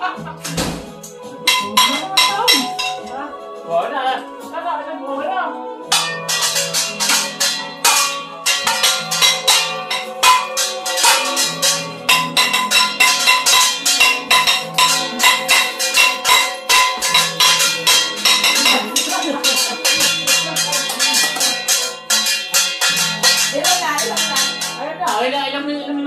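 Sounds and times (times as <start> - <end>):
pot lids and pans clanging: 0.4 - 3.2, 5.9 - 25.4.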